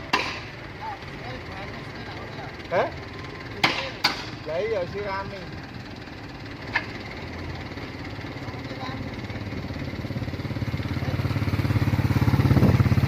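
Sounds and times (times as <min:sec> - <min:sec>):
diesel truck engine throbbing: 0:00.0 - 0:13.0.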